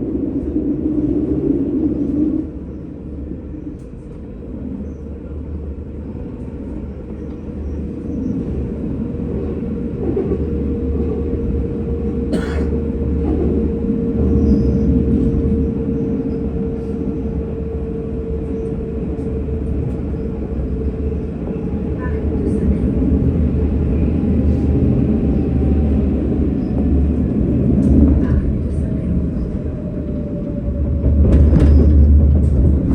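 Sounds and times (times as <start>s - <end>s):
tram rumbling on rails: 0.0s - 32.9s.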